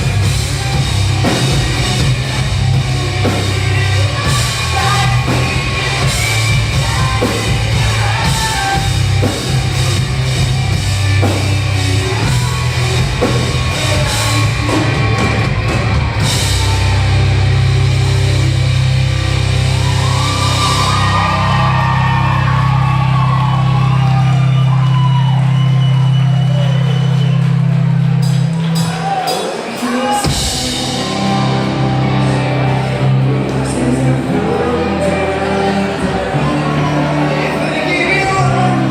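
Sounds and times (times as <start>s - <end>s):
drums and cymbals pounding: 0.0s - 36.0s
distorted guitars: 0.0s - 38.9s
rock band playing live: 0.0s - 38.9s.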